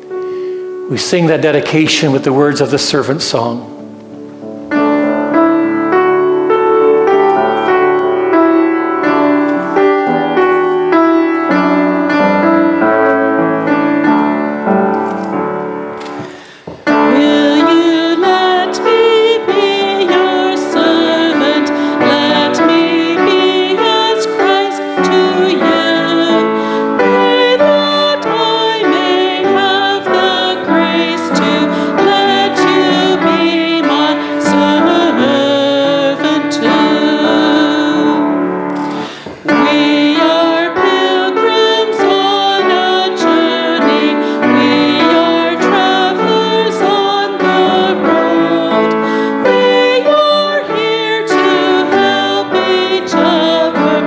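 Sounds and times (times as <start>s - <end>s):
piano playing hymn: 0.0s - 54.0s
people singing a hymn: 4.7s - 54.0s.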